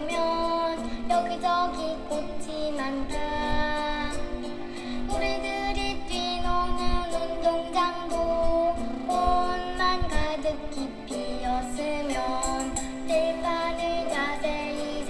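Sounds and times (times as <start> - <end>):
person singing children's song: 0.0 - 15.0.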